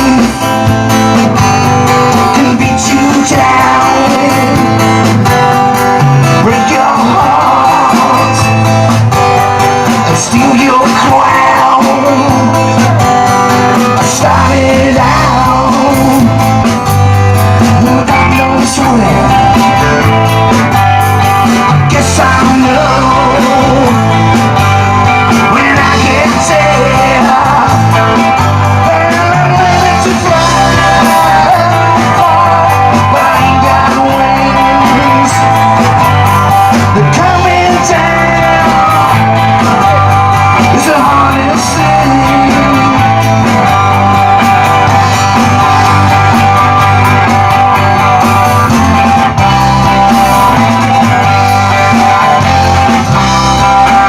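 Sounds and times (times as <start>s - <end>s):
lead guitar line bending pitch: 0.0s - 54.0s
live rock band playing: 0.0s - 54.0s.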